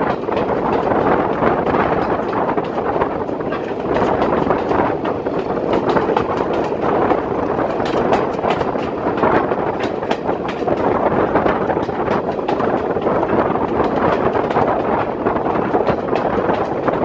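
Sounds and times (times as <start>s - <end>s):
sharp clicks and rattles: 0.0s - 17.0s
train wheels rumbling on rail: 0.0s - 17.0s.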